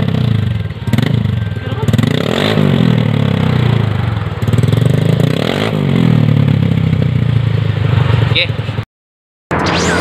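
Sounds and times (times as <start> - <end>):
scooter engine revving: 0.0 - 8.8.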